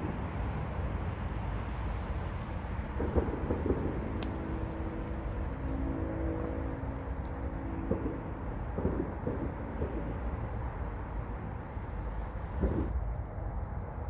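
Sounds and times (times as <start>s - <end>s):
low hum of traffic: 0.0s - 14.0s.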